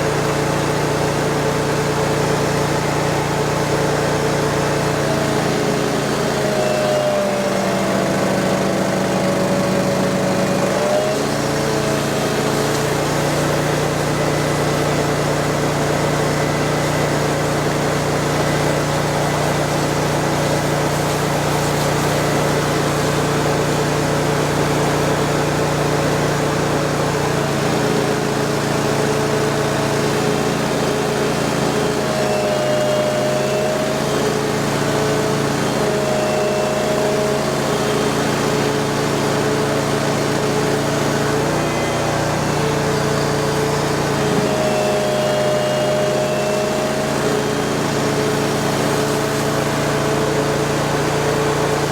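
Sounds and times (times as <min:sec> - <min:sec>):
vacuum excavator engine humming: 0:00.0 - 0:51.9
vacuum whining: 0:00.0 - 0:51.9.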